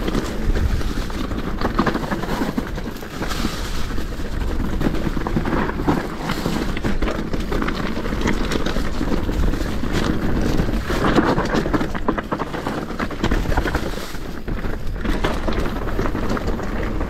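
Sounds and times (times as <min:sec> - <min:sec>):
bike rattling and knocking: 0:00.0 - 0:17.0
tyres crunching over gravel: 0:00.0 - 0:17.0
wind rumble on microphone: 0:00.0 - 0:17.0.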